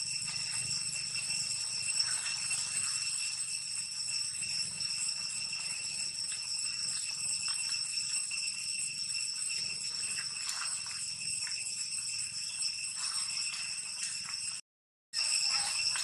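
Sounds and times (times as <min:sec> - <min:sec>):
cicadas droning: 0:00.0 - 0:14.6, 0:15.2 - 0:16.0.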